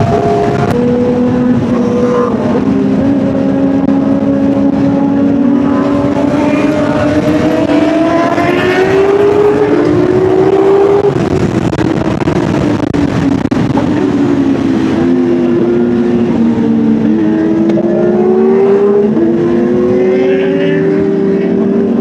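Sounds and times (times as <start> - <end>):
motorcycle engine accelerating: 0.0 - 22.0
wind rush: 0.0 - 22.0.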